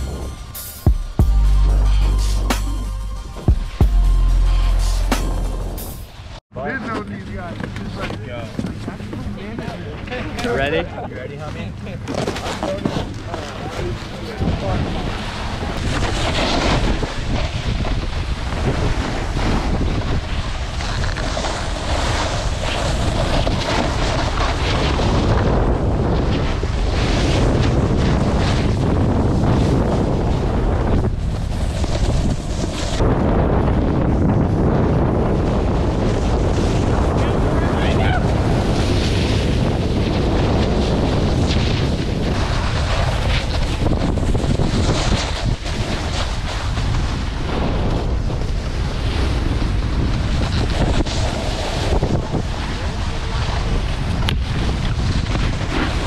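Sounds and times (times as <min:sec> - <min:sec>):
wind rushing over microphone: 0:07.3 - 0:56.0
snowboard sliding over snow: 0:07.8 - 0:56.0.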